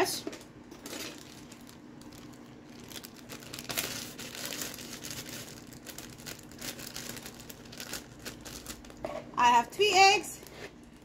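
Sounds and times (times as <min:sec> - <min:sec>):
plastic bag crinkling: 0:00.7 - 0:11.0.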